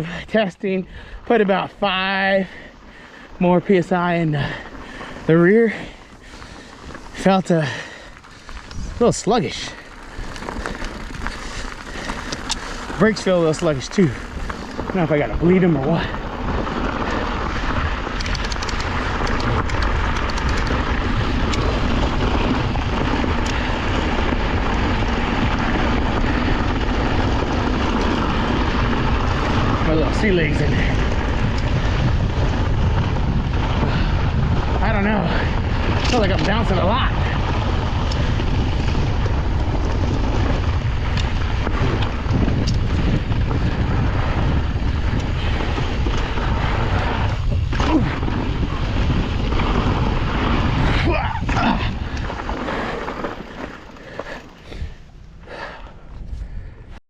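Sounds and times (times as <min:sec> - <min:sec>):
bike tyres rolling on dirt: 0:00.0 - 0:57.0
wind rushing over microphone: 0:00.0 - 0:57.0
sharp clicks and rattles: 0:03.7 - 0:55.3.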